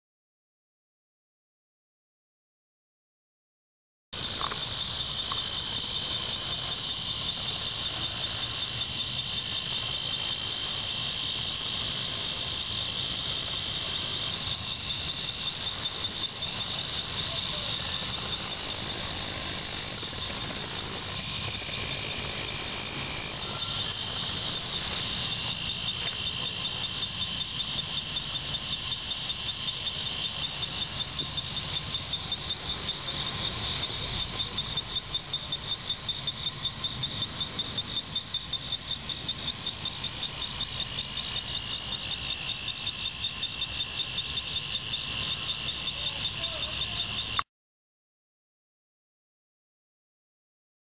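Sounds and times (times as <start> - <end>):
insects chirping: 4.2 - 47.4.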